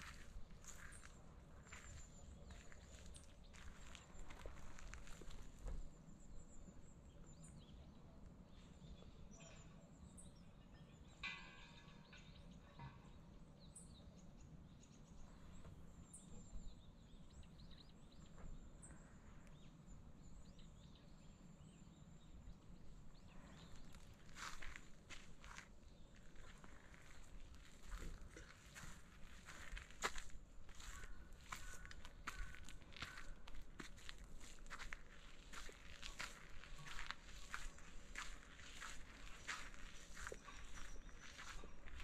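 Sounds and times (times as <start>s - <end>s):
faint bird chirps: 0.0s - 42.0s.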